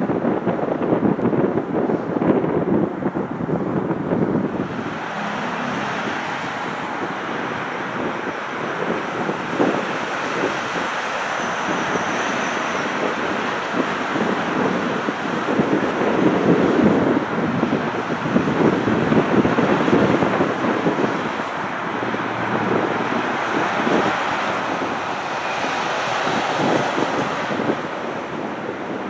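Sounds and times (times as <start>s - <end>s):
wind buffeting microphone: 0.0s - 29.0s
distant jet engine: 1.7s - 29.0s.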